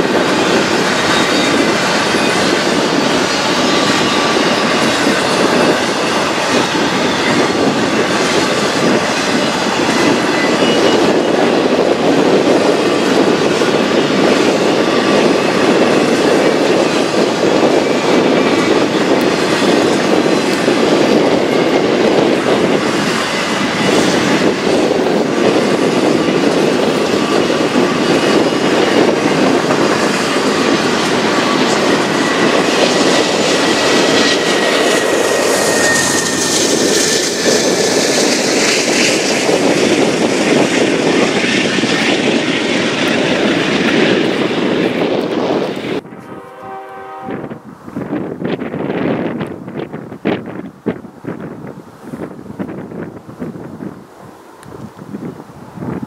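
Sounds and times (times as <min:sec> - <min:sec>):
freight train wheels rolling: 0:00.0 - 0:56.0.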